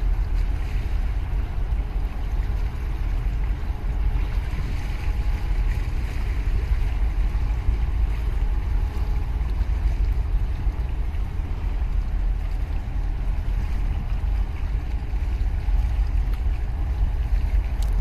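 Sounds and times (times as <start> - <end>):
ship low drone: 0.0 - 18.0
wind buffeting microphone: 0.0 - 18.0.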